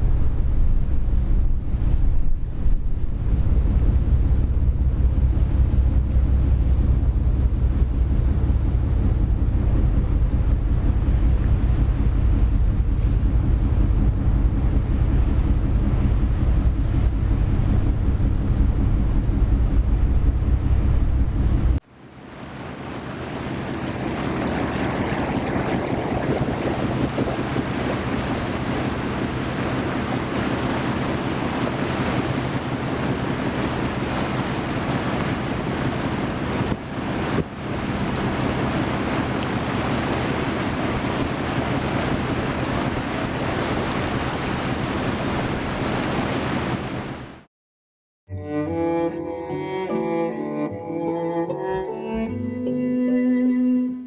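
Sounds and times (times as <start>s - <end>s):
wind on microphone: 0.0s - 21.8s, 22.8s - 47.4s
ferry engine hum: 0.0s - 47.5s
rush of wake water: 0.0s - 47.5s.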